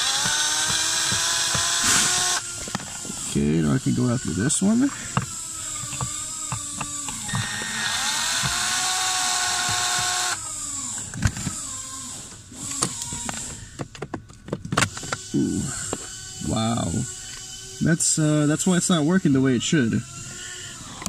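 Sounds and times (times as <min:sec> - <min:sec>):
power drill whining: 0:00.0 - 0:13.8, 0:14.8 - 0:18.6, 0:19.3 - 0:21.0.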